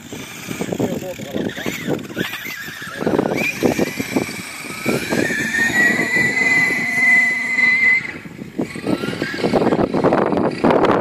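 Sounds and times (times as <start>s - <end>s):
rc truck electric motor whining: 0.0s - 11.0s.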